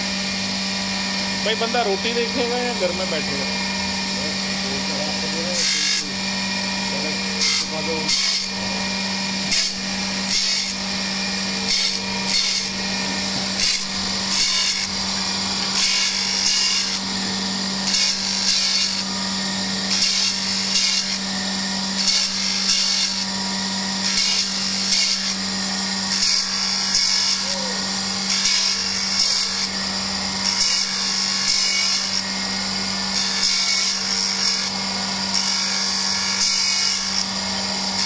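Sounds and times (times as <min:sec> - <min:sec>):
grinder motor hum: 0:00.0 - 0:38.0
grinding wheel hissing on steel: 0:00.0 - 0:38.0.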